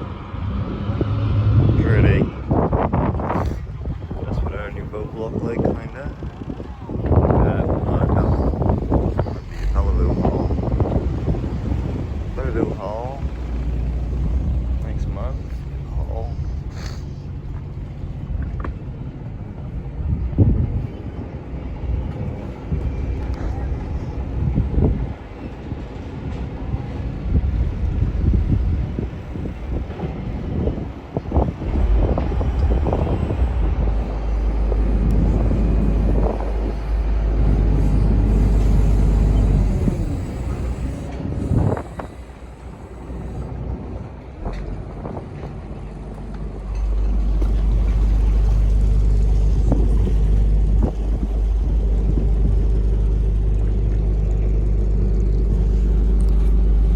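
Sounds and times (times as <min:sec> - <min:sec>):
boat engine rumbling: 0:00.0 - 0:56.9
wind buffeting microphone: 0:00.0 - 0:56.9.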